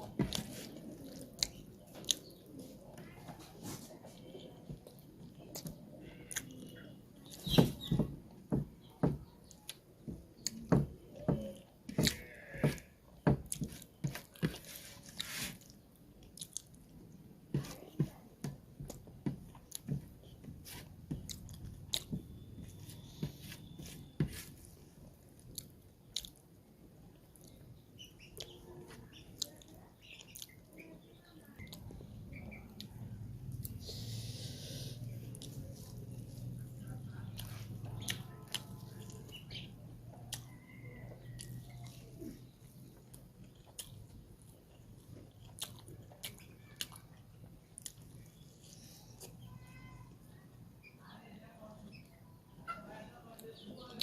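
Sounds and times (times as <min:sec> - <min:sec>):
person chewing food: 0:00.0 - 0:07.5, 0:09.1 - 0:30.8, 0:31.6 - 0:49.5.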